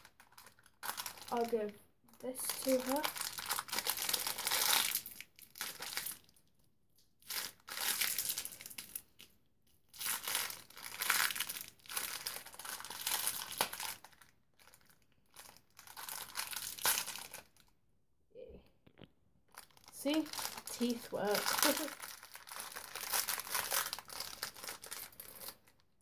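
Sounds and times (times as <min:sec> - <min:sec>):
plastic wrapper crinkling: 0:00.0 - 0:06.5, 0:07.2 - 0:17.7, 0:18.9 - 0:26.0.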